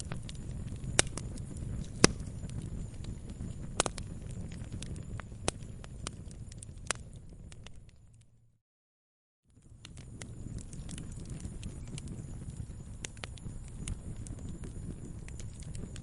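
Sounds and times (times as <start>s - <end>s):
campfire crackling and popping: 0.0s - 8.3s, 9.5s - 16.0s
low rumble of burning: 0.0s - 8.6s, 9.5s - 16.0s.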